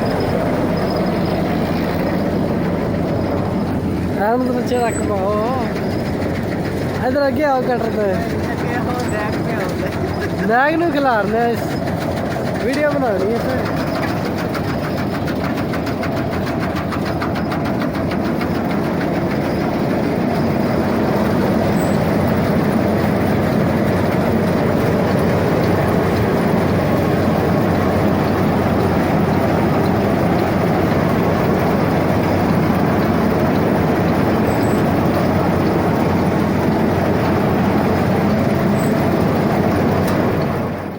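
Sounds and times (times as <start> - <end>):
combine harvester clatter and hum: 0.0 - 40.9.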